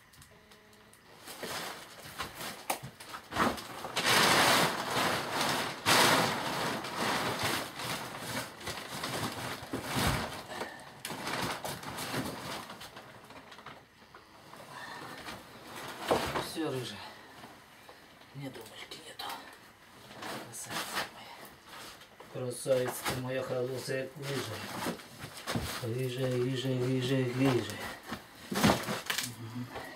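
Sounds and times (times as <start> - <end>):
stiff sheet rustling and crackling: 1.1 - 18.1, 19.9 - 29.9.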